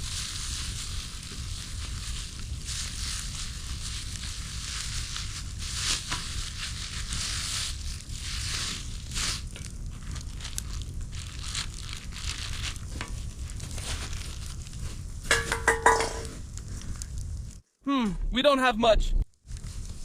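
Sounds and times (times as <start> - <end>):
plastic packaging crinkling: 0.0 - 16.4.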